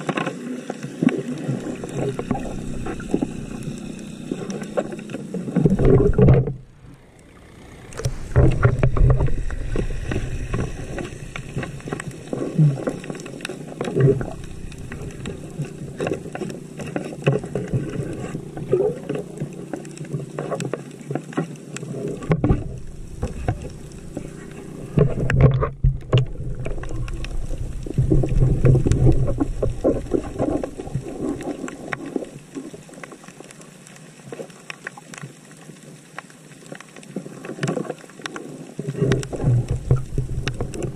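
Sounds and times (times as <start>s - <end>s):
crackle of clicks: 0.0s - 40.9s
air bubbles rumbling underwater: 1.0s - 21.1s, 21.8s - 32.9s, 38.9s - 40.9s.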